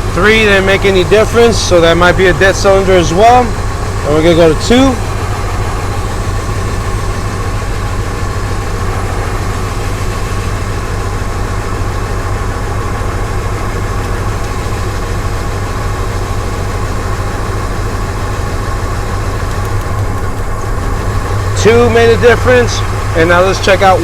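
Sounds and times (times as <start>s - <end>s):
truck engine idling and misfiring: 0.0s - 24.0s.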